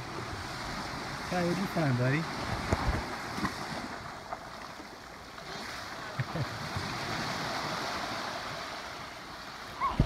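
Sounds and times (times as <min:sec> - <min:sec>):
small waves lapping on sand: 0:00.0 - 0:10.0.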